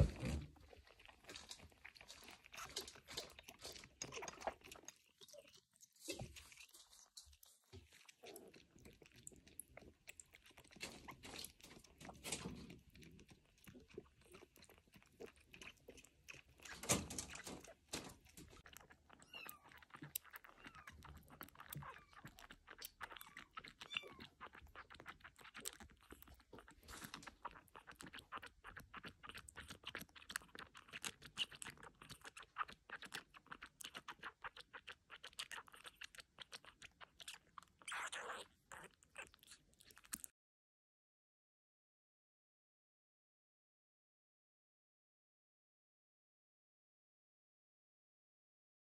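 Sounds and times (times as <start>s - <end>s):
kittens smacking and chewing: 0.0s - 40.3s.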